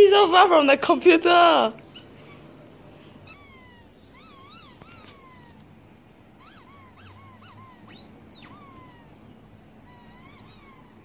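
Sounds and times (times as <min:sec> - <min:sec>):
squeaky toy squeaks: 0:01.8 - 0:11.0.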